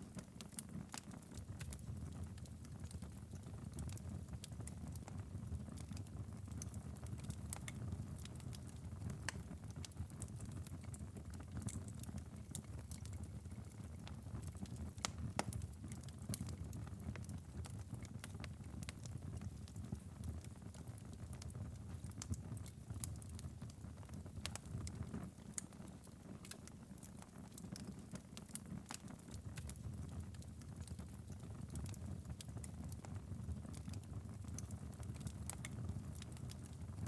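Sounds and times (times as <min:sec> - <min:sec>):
fireplace fire crackling: 0:00.0 - 0:37.0.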